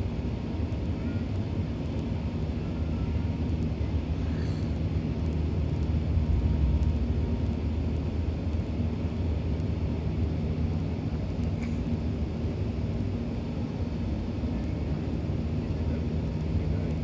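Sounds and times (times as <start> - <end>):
aircraft engines low rumble: 0.0 - 17.0.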